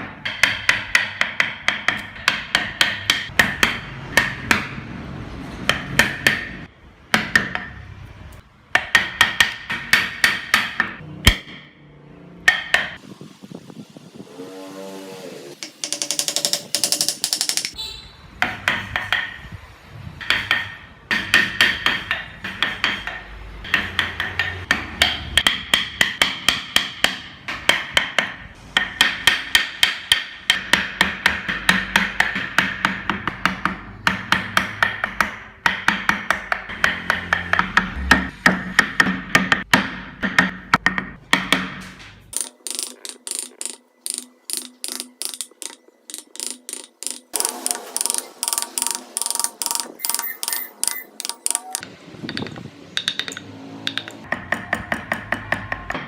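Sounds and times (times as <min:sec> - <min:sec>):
mallet tapping chisel into wood: 0:00.0 - 0:04.8, 0:05.6 - 0:07.8, 0:08.7 - 0:11.7, 0:15.6 - 0:17.8, 0:18.4 - 0:19.4, 0:20.2 - 0:41.8, 0:42.4 - 0:56.0.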